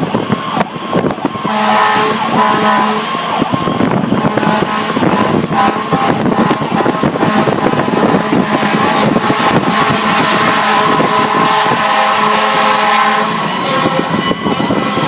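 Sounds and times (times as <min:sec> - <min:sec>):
road noise: 0:00.0 - 0:15.0
truck engine droning: 0:00.0 - 0:15.0.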